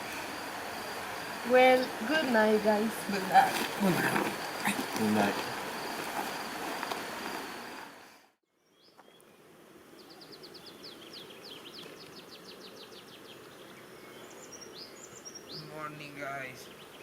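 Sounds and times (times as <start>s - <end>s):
outdoor night ambience: 0.0s - 17.0s.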